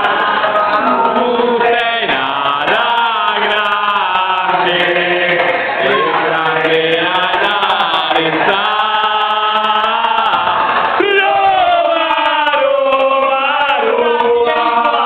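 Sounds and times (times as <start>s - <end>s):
group singing in unison: 0.0s - 15.0s.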